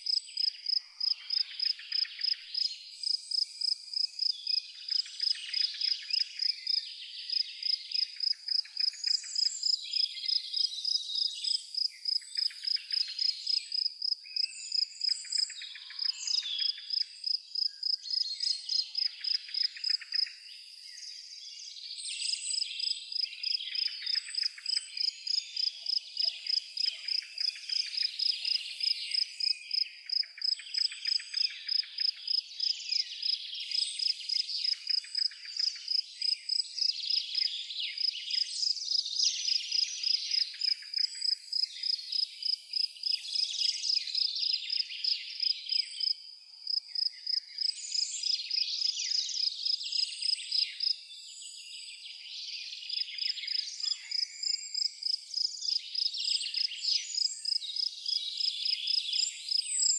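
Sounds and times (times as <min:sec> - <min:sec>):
cricket chirping: 0:00.0 - 0:20.8, 0:22.5 - 0:52.0, 0:52.8 - 0:59.9.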